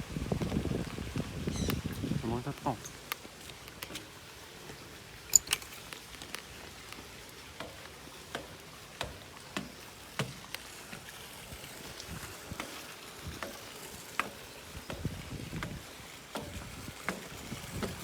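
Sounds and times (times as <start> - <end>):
raindrops ticking on surfaces: 0.0 - 18.0.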